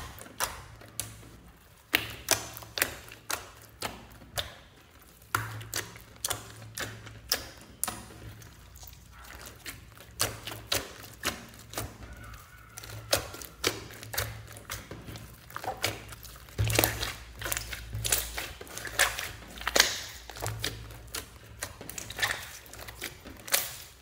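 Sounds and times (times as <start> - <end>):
hands squeezing slime: 0.0 - 24.0.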